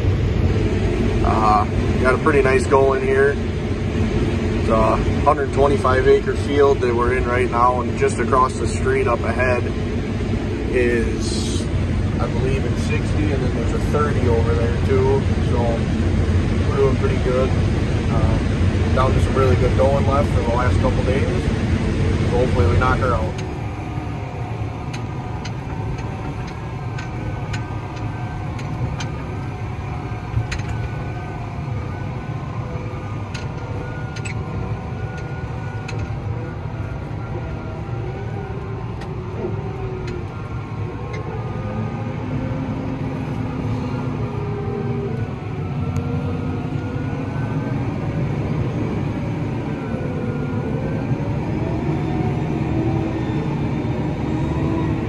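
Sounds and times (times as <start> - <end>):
tractor engine running: 0.0 - 51.2.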